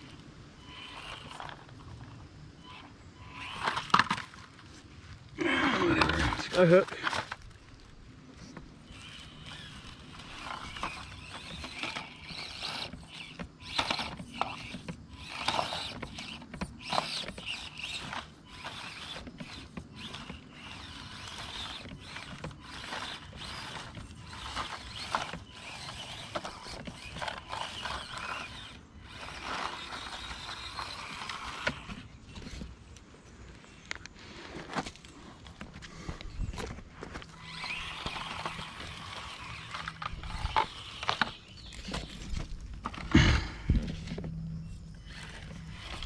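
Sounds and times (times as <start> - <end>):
small electric motor whirring: 0.0 - 33.0, 34.8 - 46.0
tyres clicking and scraping on stone: 2.8 - 46.0.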